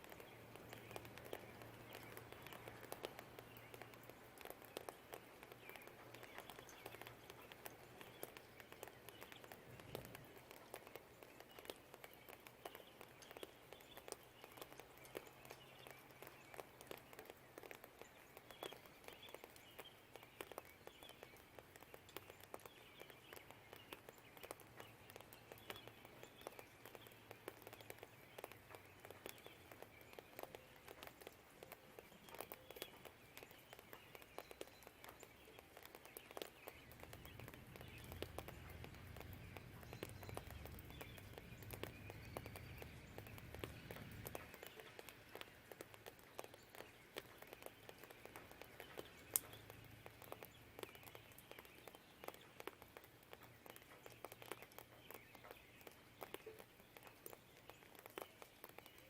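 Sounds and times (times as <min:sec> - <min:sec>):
birds chirping: 0:00.0 - 0:59.0
faint rain ticking and dripping: 0:00.0 - 0:59.0.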